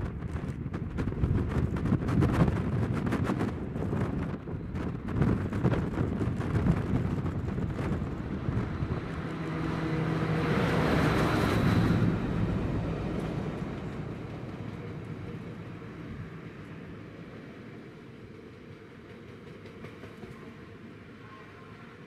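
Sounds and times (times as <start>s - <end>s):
diesel locomotive engine: 0.0s - 22.0s
rolling rumble of train wagons: 0.0s - 22.0s.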